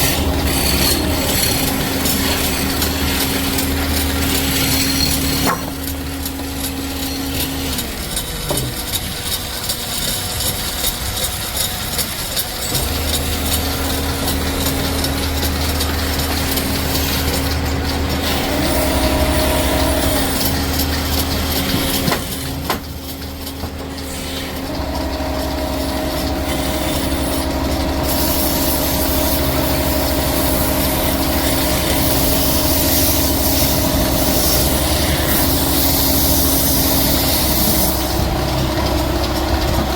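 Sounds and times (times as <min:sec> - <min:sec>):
wood being cut: 0:00.0 - 0:11.6, 0:12.2 - 0:22.8, 0:23.9 - 0:39.9
woodworking machine motor hum: 0:00.0 - 0:39.9.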